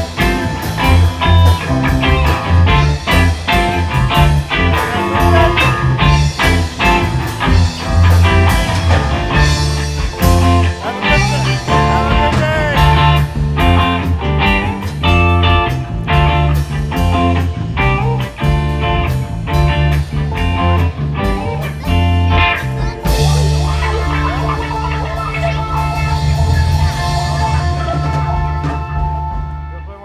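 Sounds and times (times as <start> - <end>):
blues-rock music with electric guitar: 0.0 - 30.0.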